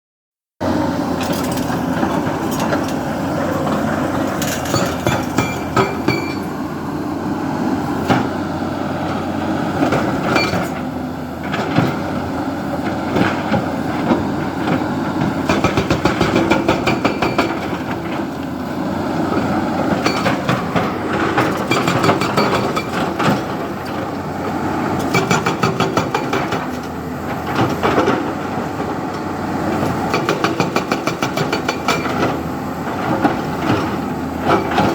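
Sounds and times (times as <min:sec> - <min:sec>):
diesel engine running: 0:00.6 - 0:34.9.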